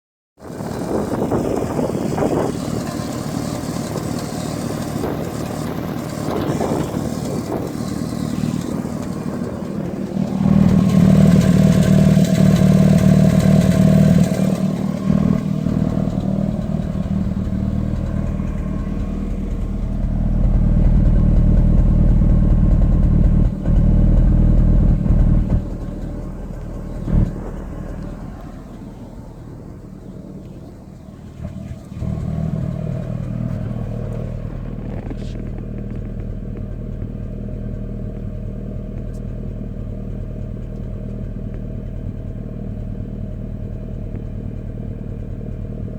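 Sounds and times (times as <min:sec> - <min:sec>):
car engine misfiring: 0:00.4 - 0:45.9.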